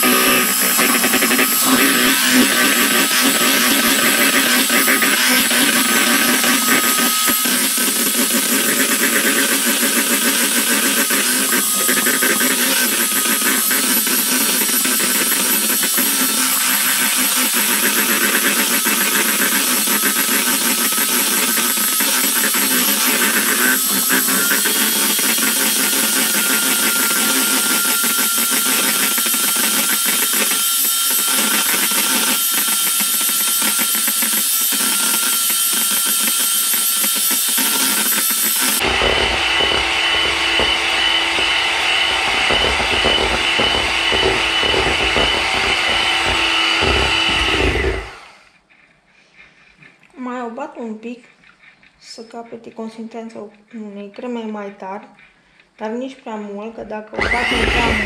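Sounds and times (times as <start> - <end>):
electric mixer whirring: 0.0 - 48.6, 57.2 - 58.0.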